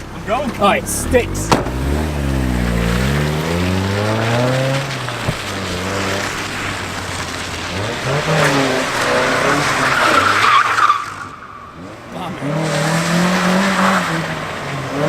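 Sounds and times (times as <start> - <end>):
car engine revving: 0.0 - 15.0
tires skidding on wet pavement: 0.0 - 15.0.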